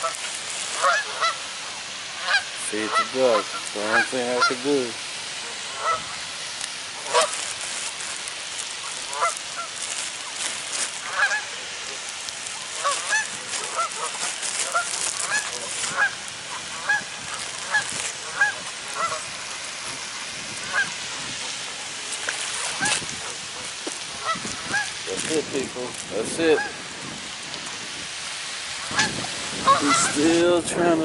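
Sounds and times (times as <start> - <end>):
geese honking: 0.0 - 26.9, 28.8 - 30.5.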